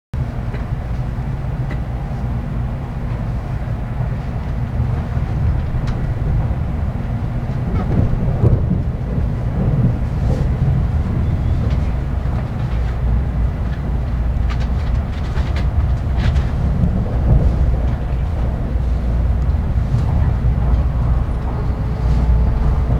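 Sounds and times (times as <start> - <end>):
train running rumble: 0.1 - 22.9.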